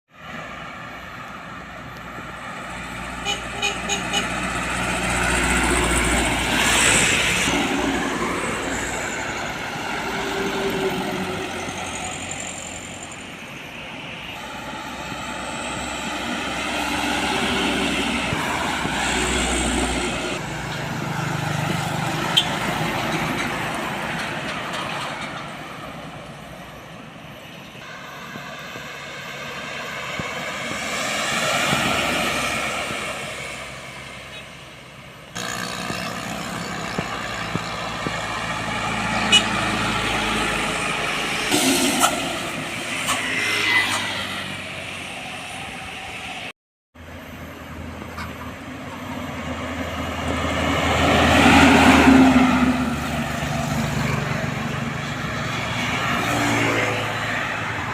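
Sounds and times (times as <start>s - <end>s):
trucks and vehicles passing: 0.1s - 57.9s.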